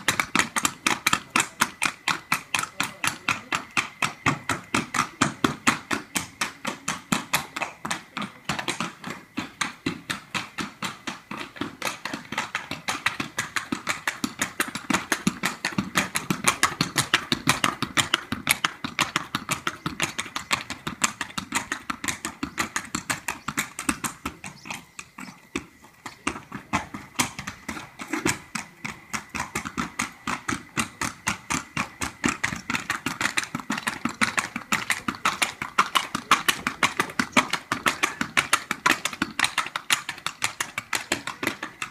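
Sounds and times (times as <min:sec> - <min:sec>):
horse hoofbeats: 0:00.0 - 0:41.9.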